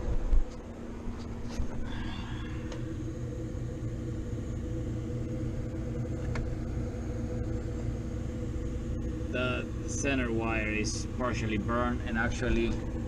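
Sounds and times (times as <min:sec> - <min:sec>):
compressor humming: 0:00.0 - 0:13.0.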